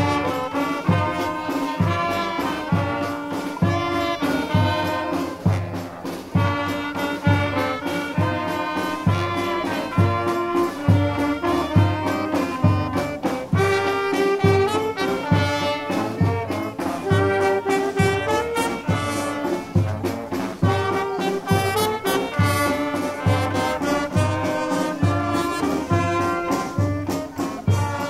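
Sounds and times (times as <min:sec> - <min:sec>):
brass band playing: 0:00.0 - 0:28.0
percussion beat: 0:00.0 - 0:28.0.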